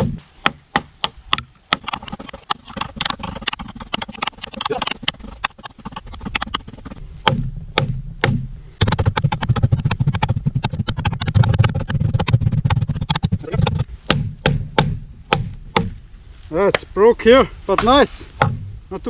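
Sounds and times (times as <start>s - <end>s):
knife chopping into wood: 0.0s - 16.0s.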